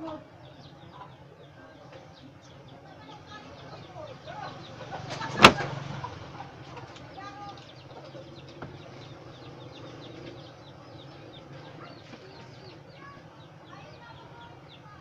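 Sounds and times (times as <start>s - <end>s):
chicks chirping rapidly: 0.0s - 15.0s.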